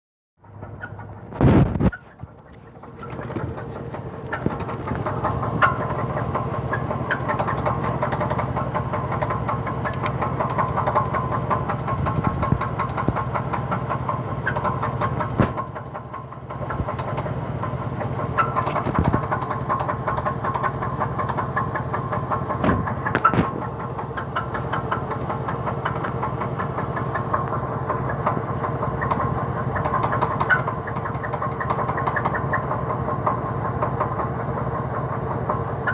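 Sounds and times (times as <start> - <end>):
car engine idling with knock: 0.4 - 35.9
engine ticking and squeaking: 0.4 - 35.9.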